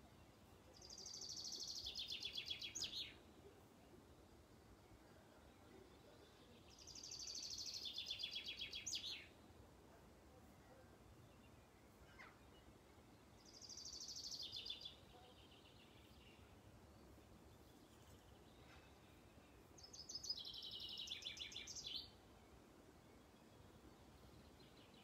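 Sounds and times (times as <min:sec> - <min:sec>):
faint background hiss: 0:00.0 - 0:25.0.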